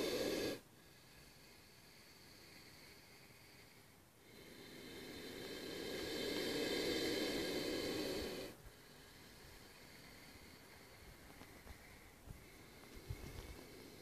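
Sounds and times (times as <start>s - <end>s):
cobra hissing: 0.0s - 14.0s.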